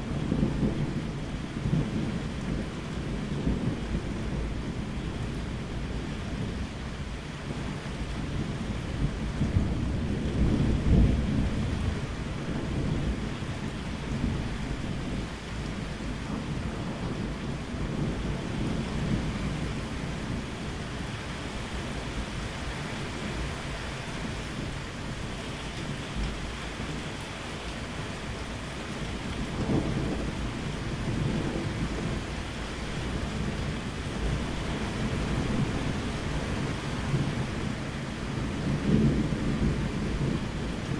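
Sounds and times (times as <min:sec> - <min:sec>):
low rolling thunder: 0:00.0 - 0:40.9
steady rain: 0:00.0 - 0:40.9.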